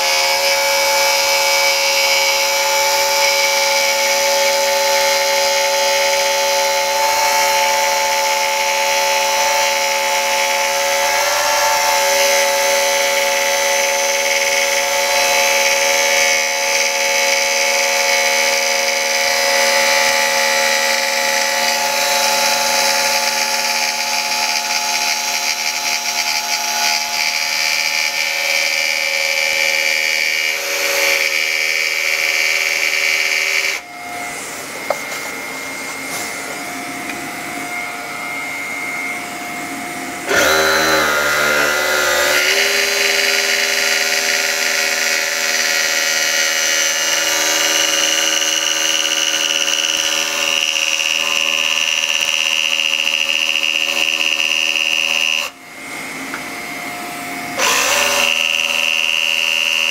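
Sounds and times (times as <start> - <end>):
jigsaw cutting metal: 0.0 - 35.3, 39.8 - 59.9
vacuum cleaner running: 0.0 - 59.9.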